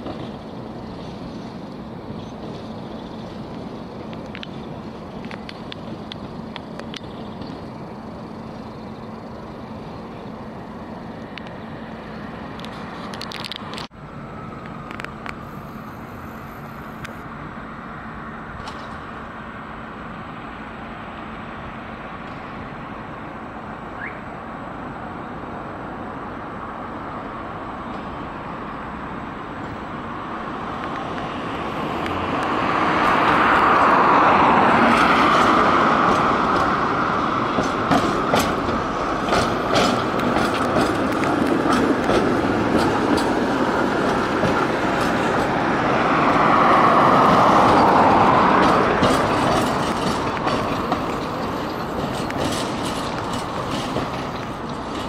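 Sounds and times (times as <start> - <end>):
street traffic hum: 0.0 - 55.0
tram running on rails: 0.0 - 55.0.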